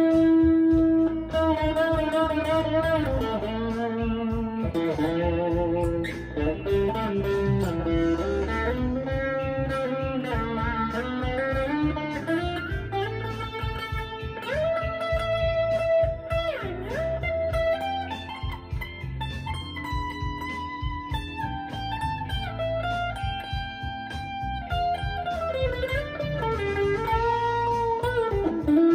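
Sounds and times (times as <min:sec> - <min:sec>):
backing track with drums and bass: 0:00.0 - 0:28.9
electric guitar lead: 0:00.0 - 0:28.9.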